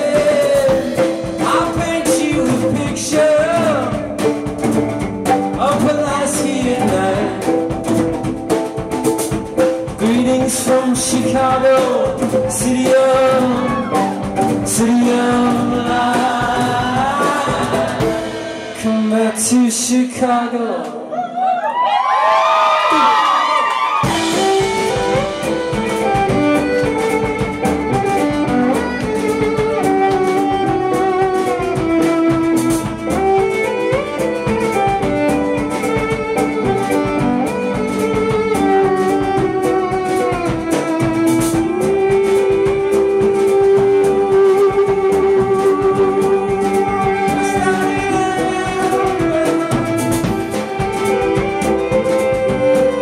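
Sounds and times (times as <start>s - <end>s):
bowed violin: 0.0s - 19.9s, 24.0s - 53.0s.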